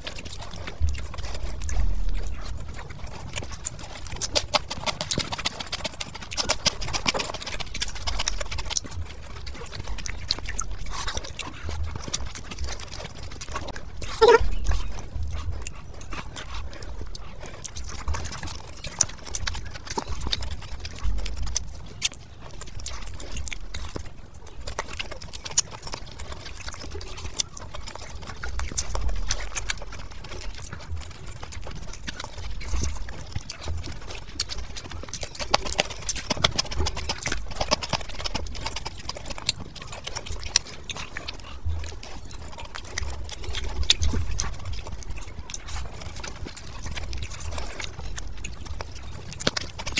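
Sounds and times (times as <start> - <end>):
chewing and lip smacking: 0.0 - 49.9.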